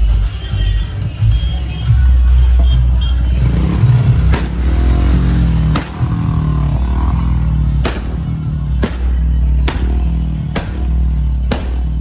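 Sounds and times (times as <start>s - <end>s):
engines running and revving: 0.0s - 12.0s.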